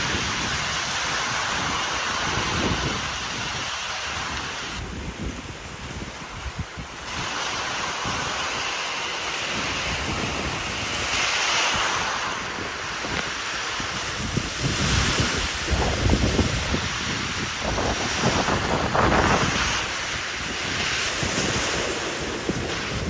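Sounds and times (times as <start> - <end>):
strong wind gusts: 0.0 - 23.0
wind buffeting microphone: 0.0 - 23.0.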